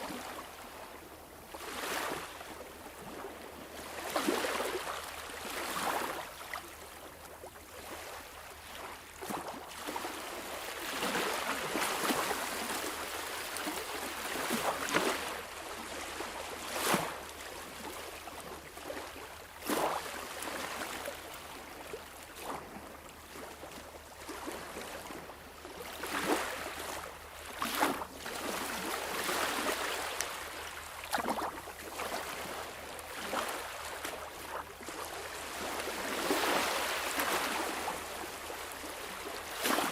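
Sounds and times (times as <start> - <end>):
sea water lapping and splashing: 0.0 - 39.9.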